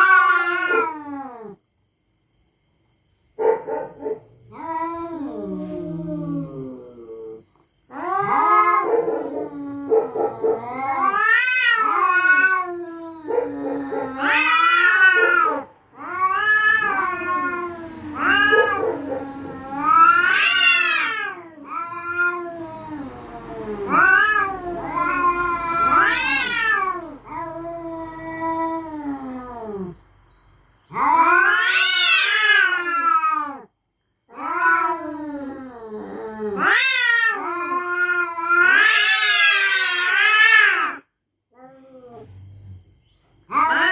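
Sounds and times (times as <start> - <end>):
cats yowling: 0.0 - 1.6, 4.0 - 30.0, 30.9 - 33.7, 34.3 - 42.4, 43.5 - 43.9.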